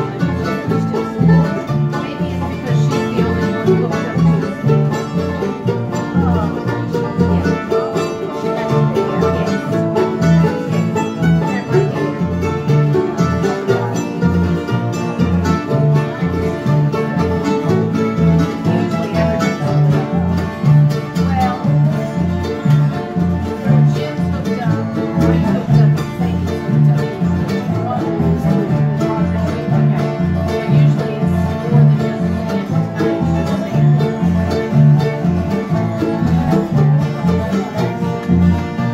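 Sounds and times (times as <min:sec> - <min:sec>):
acoustic bluegrass string music: 0:00.0 - 0:38.9.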